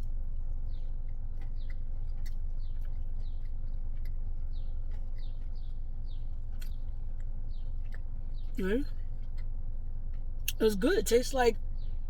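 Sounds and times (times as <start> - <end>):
small bird chirping: 0.0 - 12.0
steady low rumble: 0.0 - 12.0.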